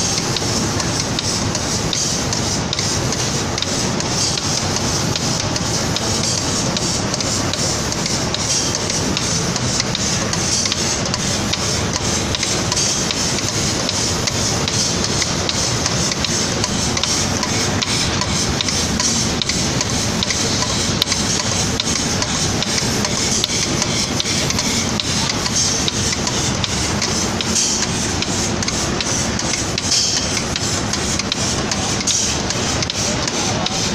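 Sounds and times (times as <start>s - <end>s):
mechanical clatter: 0.0s - 33.9s.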